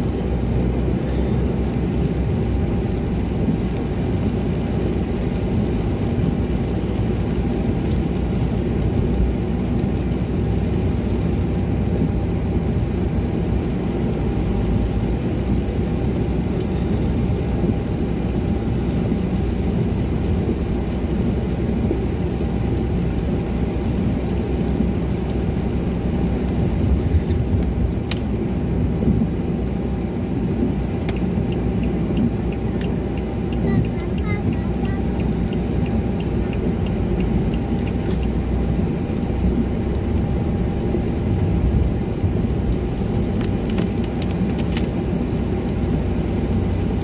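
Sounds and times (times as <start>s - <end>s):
car engine and tyres on wet road: 0.0s - 47.0s.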